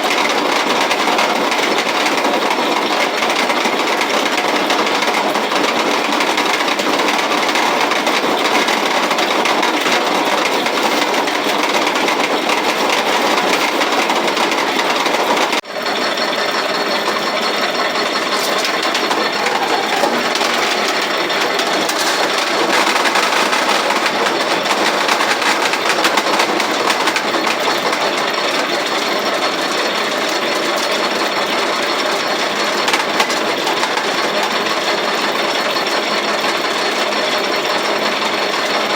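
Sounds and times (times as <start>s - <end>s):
grain mill clattering: 0.0s - 15.6s, 16.7s - 37.4s.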